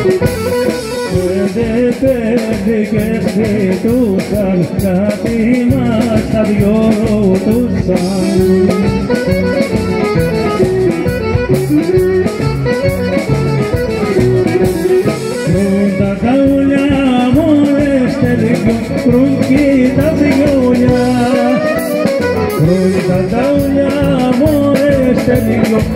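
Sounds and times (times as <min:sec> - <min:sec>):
person singing: 0:00.0 - 0:25.9
plucked strings with steady beat: 0:00.0 - 0:25.9.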